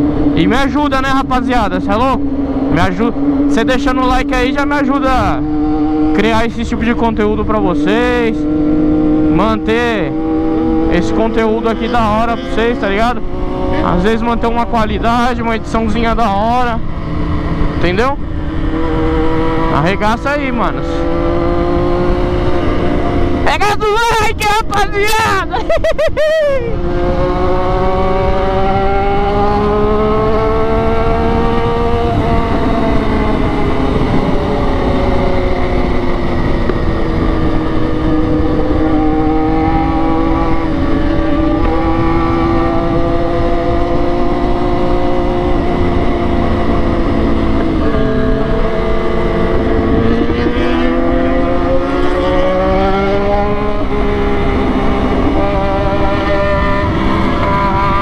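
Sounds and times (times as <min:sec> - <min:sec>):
motorcycle engine while riding: 0:00.0 - 0:58.0
wind noise on microphone: 0:00.0 - 0:58.0.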